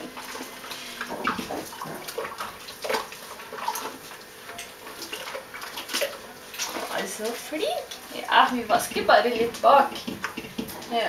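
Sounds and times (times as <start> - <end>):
water splashing in a steel sink: 0.0 - 11.0.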